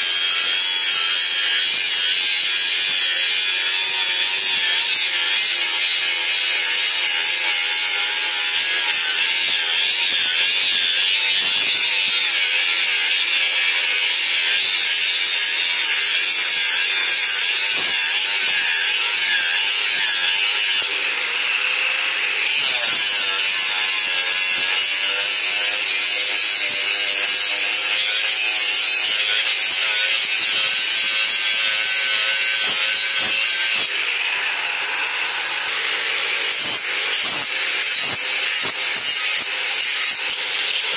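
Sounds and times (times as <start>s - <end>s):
angle grinder grinding metal: 0.0s - 40.9s.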